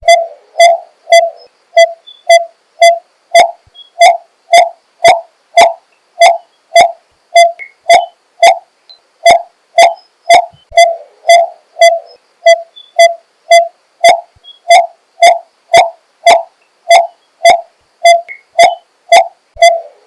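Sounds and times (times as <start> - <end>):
bird hollow tuk call: 0.0 - 8.6, 9.3 - 20.0.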